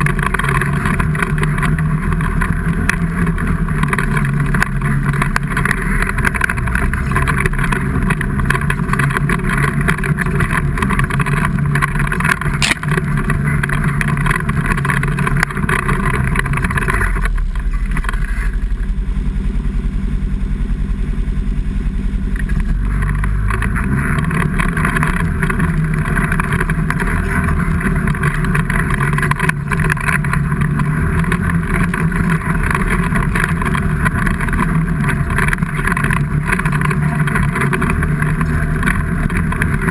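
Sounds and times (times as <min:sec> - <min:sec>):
vehicle engine running under load: 0:00.0 - 0:39.9.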